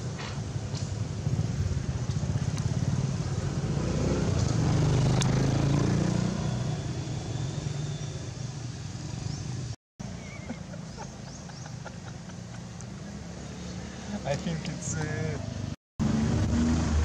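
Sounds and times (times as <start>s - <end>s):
vehicle engine passing: 0.8s - 17.0s.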